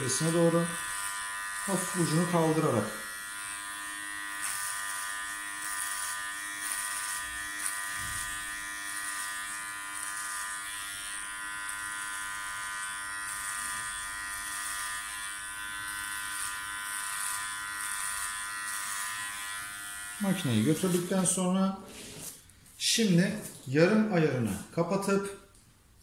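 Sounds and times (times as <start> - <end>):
hair clipper buzzing: 0.0 - 23.6.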